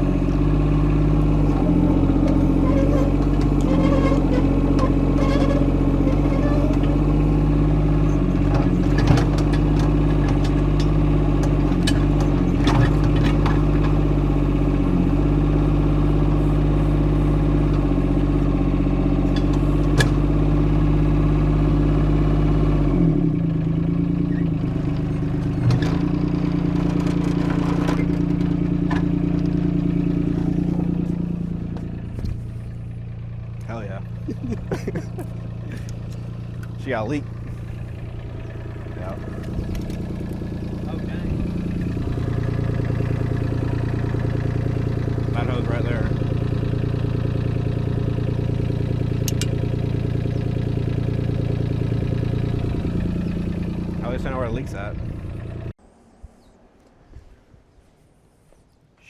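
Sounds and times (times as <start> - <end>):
mini excavator diesel engine: 0.0 - 56.0.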